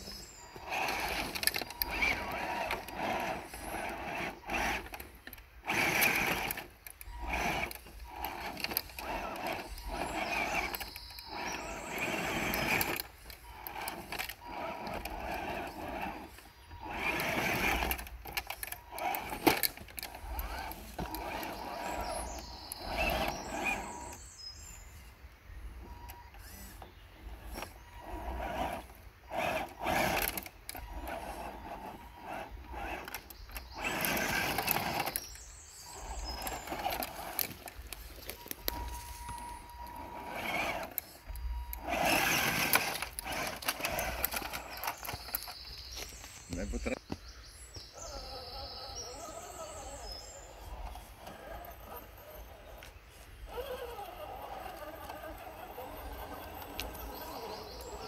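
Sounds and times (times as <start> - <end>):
electric motor and gears whirring: 0.0 - 58.0.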